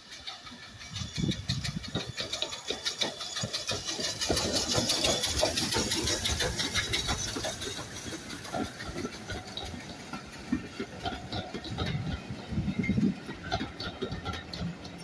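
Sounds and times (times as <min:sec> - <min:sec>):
steam locomotive exhaust beats: 0:00.0 - 0:15.0
train wheel clatter: 0:00.0 - 0:15.0.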